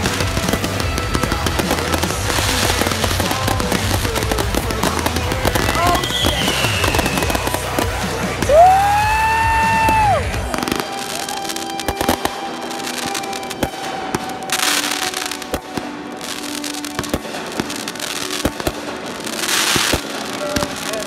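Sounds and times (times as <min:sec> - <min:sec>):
firework hissing rush: 0:00.0 - 0:21.0
fireworks bangs and crackles: 0:00.0 - 0:21.0.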